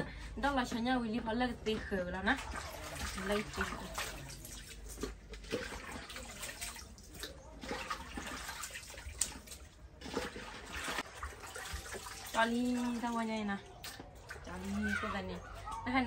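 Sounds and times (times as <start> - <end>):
water sloshing in metal basin: 0.6 - 16.0.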